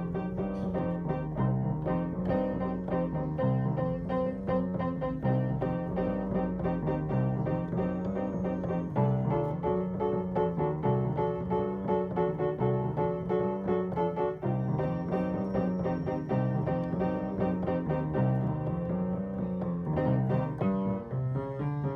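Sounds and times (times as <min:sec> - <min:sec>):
piano background music: 0:00.0 - 0:21.9.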